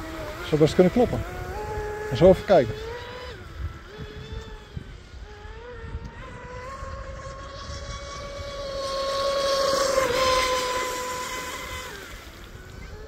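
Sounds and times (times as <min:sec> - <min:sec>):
electric motor of model boat whining: 0:00.0 - 0:13.0.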